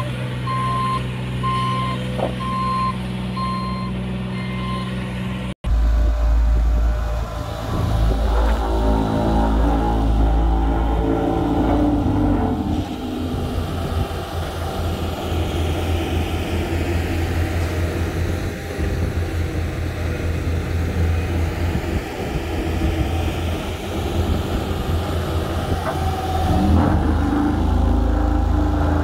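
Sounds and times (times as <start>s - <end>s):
road roller diesel engines droning: 0.0s - 29.0s.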